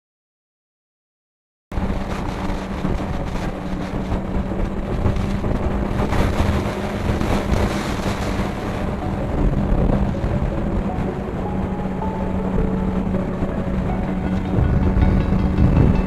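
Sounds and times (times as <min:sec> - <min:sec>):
wind rush on microphone: 0:01.7 - 0:16.0
motorcycle engine cruising: 0:01.8 - 0:16.0.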